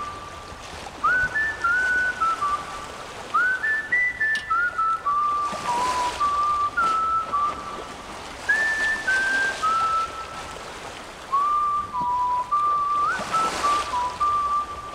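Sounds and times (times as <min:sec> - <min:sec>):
whistled tune: 0:00.0 - 0:10.6, 0:11.3 - 0:14.9.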